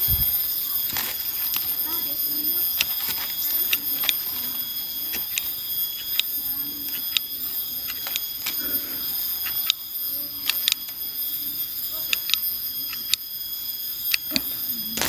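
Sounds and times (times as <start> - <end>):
steady high-pitched tone: 0.0 - 15.0.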